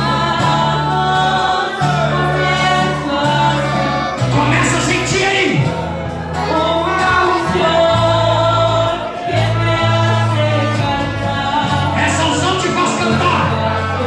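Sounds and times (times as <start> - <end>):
instrumental accompaniment: 0.0 - 14.0
voices singing together: 0.0 - 14.0.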